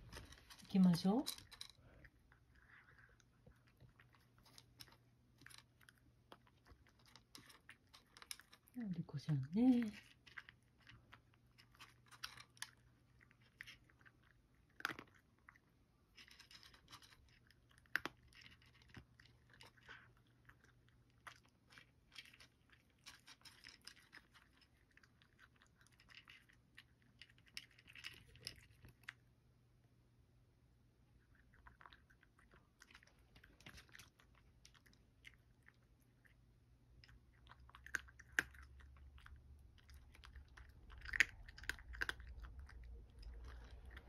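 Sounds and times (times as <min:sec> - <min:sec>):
cat crunching dry kibble: 0:00.0 - 0:29.4, 0:31.2 - 0:44.0.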